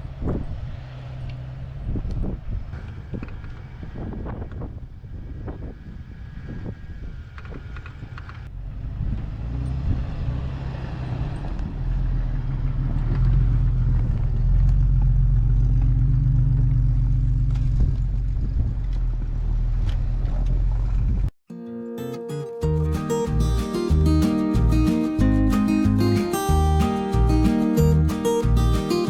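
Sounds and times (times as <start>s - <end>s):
vehicle engine driving: 0.0s - 21.3s, 22.7s - 29.0s.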